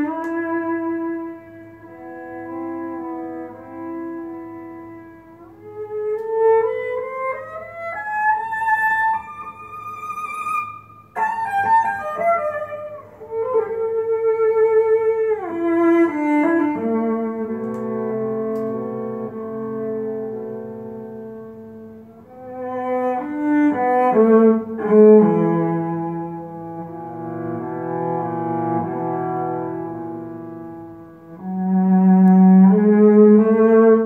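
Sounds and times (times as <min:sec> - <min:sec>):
slow string-led classical music: 0:00.0 - 0:34.0.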